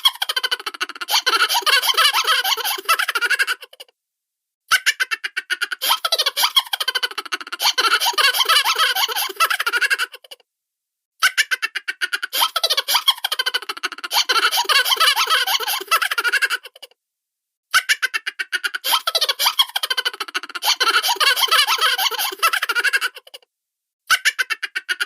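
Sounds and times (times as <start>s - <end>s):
cartoon laughter: 0.0s - 3.9s, 4.7s - 10.4s, 11.2s - 16.9s, 17.7s - 23.4s, 24.1s - 25.0s.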